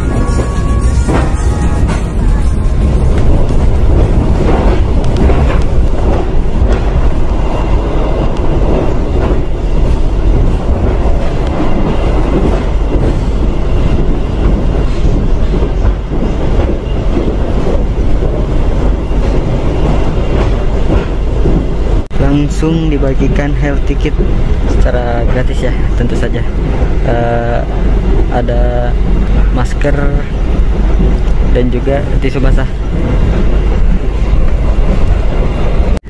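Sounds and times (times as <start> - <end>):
train wheels clattering on track: 0.0 - 36.0.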